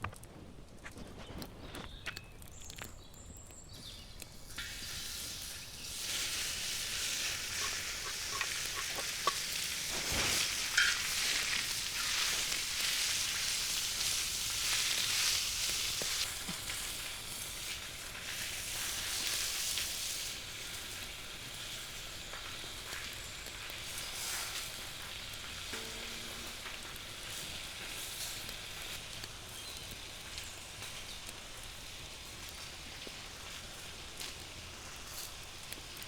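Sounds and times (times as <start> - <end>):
food sizzling in a pan: 4.4 - 36.0.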